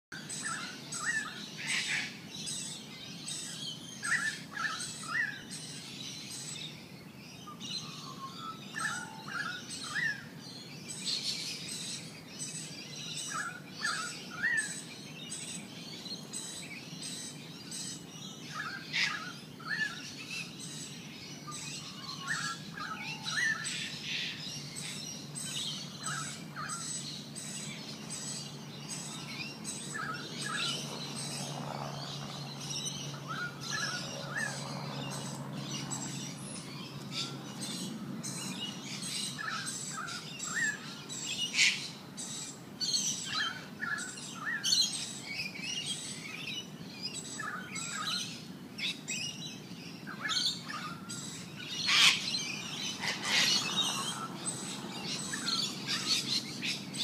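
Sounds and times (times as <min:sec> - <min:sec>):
birds chirping: 0:00.1 - 0:57.0.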